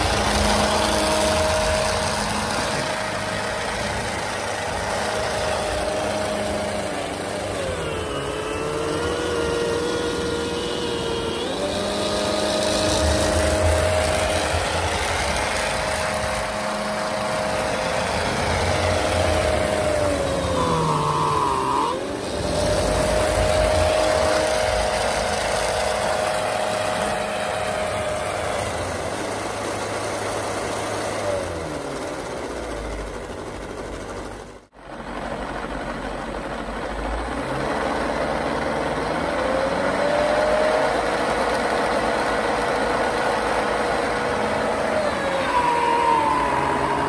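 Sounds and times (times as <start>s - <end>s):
electric motor whine: 0.0s - 33.8s, 36.5s - 47.0s.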